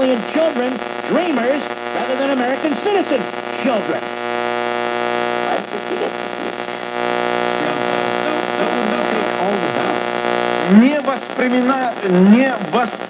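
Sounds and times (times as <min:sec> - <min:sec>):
faint broadcast voice: 0:00.0 - 0:04.2, 0:05.0 - 0:13.0.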